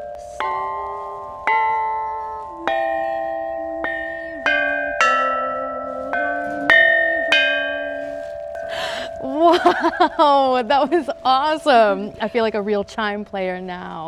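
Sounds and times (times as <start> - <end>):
bronze chime bells melody: 0.0 - 13.3.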